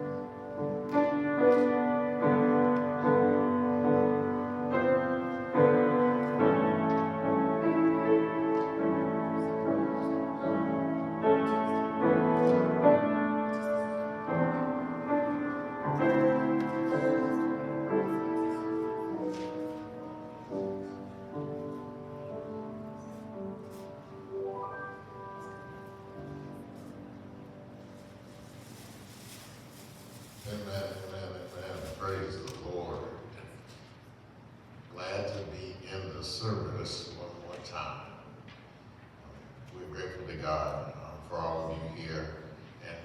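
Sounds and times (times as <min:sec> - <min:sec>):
slow piano piece: 0:00.0 - 0:43.0.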